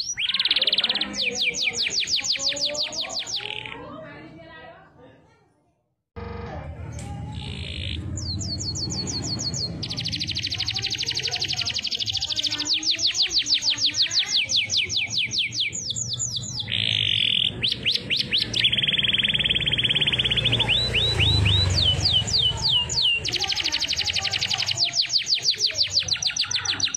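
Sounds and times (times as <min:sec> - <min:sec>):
canary singing trills: 0:00.0 - 0:04.0, 0:07.0 - 0:26.9.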